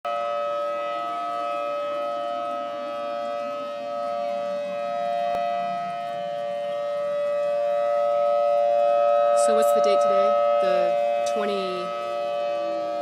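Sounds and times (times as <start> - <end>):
warning sirens steady tone: 0.0 - 13.0.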